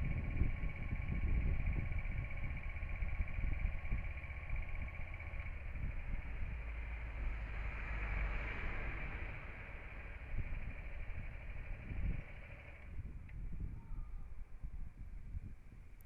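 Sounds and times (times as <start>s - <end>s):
thin whine: 0.0s - 15.5s
motorcycle engine low rumble: 0.0s - 16.0s.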